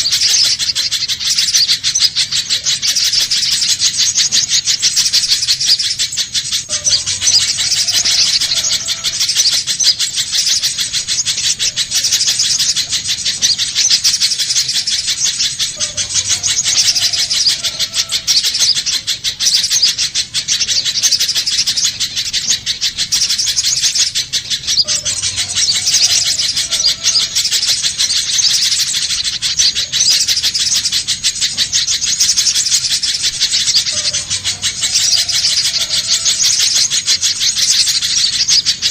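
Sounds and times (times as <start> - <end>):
bird chattering calls: 0.0 - 38.9.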